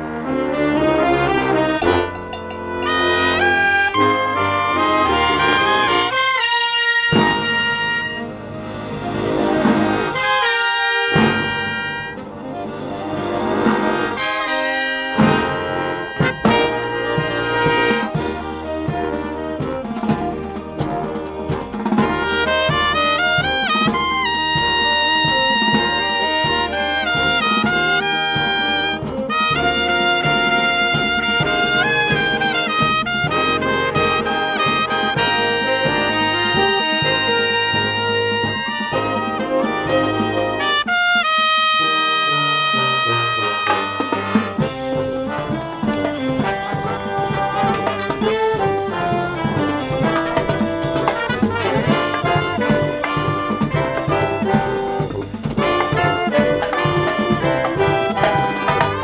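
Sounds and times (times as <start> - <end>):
brass marching band playing: 0.0 - 59.0
trumpet holding long notes: 0.0 - 59.0.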